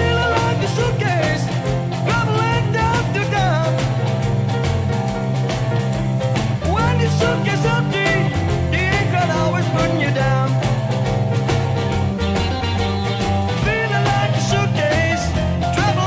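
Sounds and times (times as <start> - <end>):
bass line: 0.0 - 16.0
drums: 0.0 - 16.0
lead guitar bending notes: 0.0 - 16.0.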